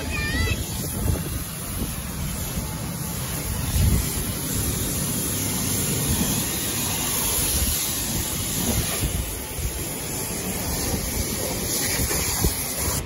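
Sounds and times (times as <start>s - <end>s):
pressure washer spraying water: 0.0s - 13.0s
wind buffeting microphone: 0.0s - 13.0s.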